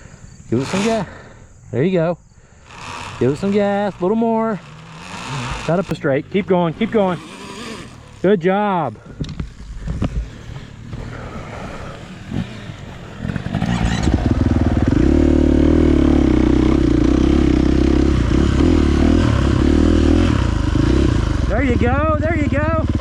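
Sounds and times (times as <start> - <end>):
dirt bike motor running: 0.0 - 23.0.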